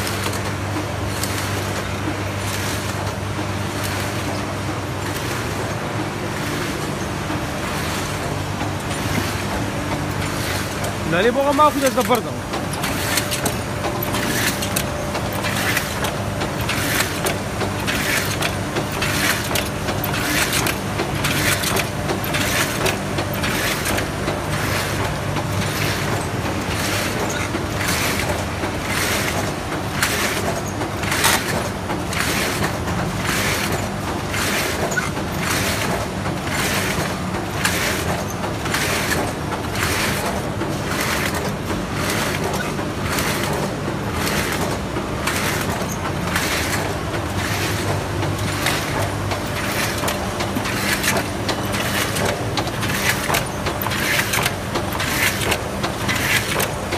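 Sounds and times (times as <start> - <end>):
steady motor hum: 0.0 - 56.9
die-cutting press strokes: 7.4 - 56.9.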